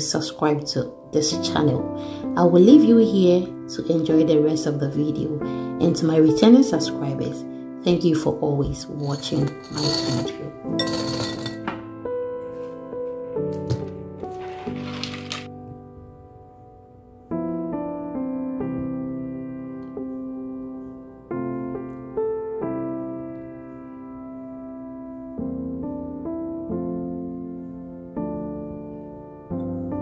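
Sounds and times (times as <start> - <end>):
slow calm piano chords: 0.0 - 30.0.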